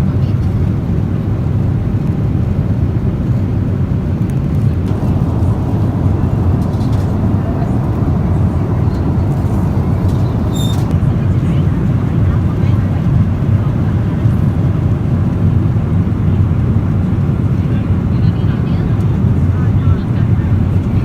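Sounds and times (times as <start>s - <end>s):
jet engine and airflow roar: 2.7s - 21.0s.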